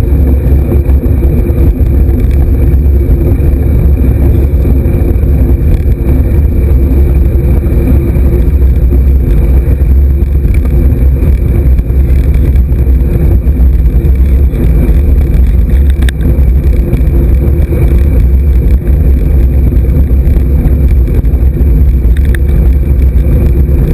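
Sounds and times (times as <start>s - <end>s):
road and tyre noise: 0.0s - 23.9s
wind buffeting microphone: 0.0s - 23.9s.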